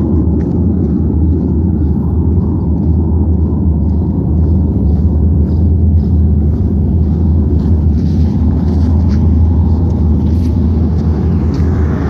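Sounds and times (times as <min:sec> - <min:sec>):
loud low rumble outdoors: 0:00.0 - 0:12.0.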